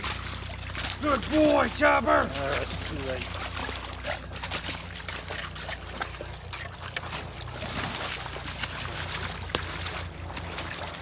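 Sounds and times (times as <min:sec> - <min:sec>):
creek water running: 0:00.0 - 0:11.0
dogs splashing in water: 0:00.0 - 0:11.0.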